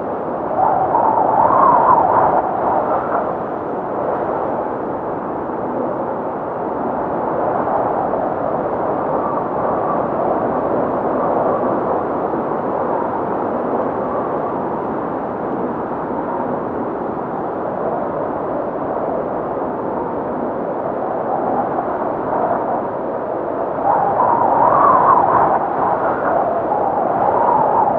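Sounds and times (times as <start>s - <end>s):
blizzard wind blowing: 0.0s - 27.9s.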